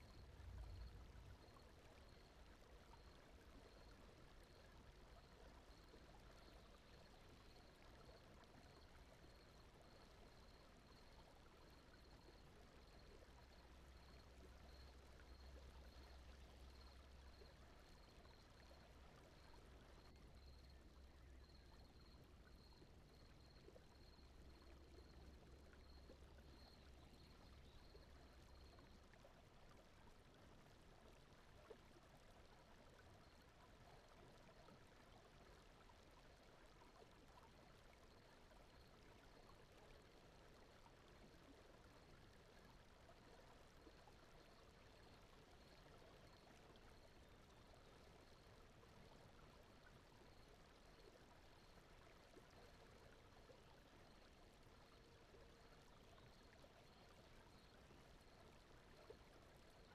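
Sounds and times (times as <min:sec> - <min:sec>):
faint water-like rushing noise: 0:00.0 - 0:59.9.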